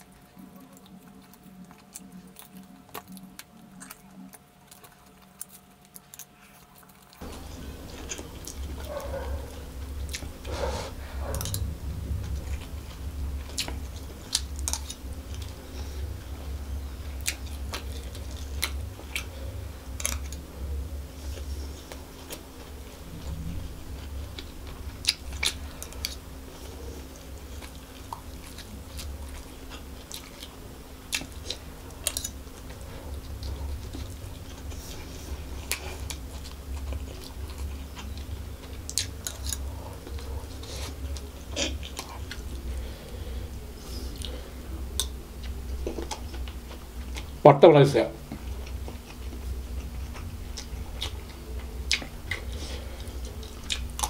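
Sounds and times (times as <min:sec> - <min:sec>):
person chewing: 0:00.0 - 0:47.4, 0:48.2 - 0:54.0
steady low hum: 0:00.0 - 0:54.0.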